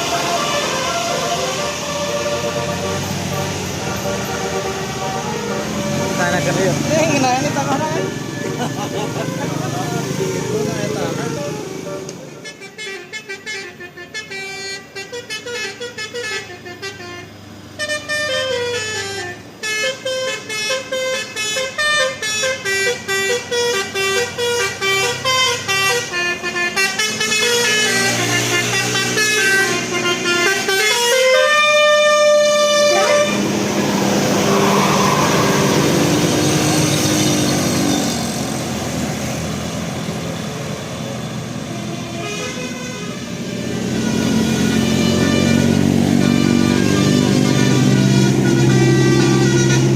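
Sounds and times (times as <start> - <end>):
bus horn melody: 0.0 - 38.8, 41.0 - 49.9
bus engine and road noise: 0.0 - 49.9.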